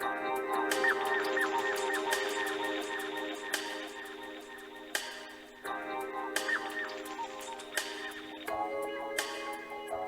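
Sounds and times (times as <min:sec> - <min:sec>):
drum and bass music: 0:00.0 - 0:10.0.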